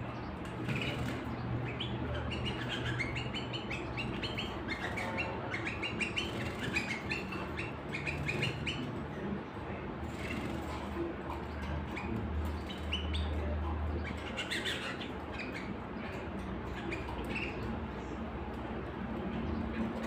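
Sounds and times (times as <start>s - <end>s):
canaries chirping: 0.0s - 20.0s.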